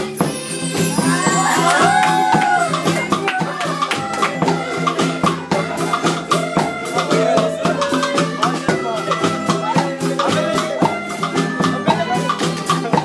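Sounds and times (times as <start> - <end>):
music with quick percussion beat: 0.0 - 13.0.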